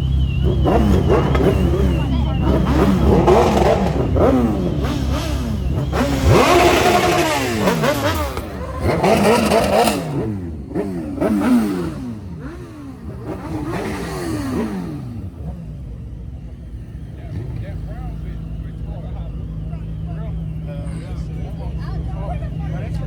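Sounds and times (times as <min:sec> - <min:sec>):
engines revving hard: 0:00.0 - 0:23.0.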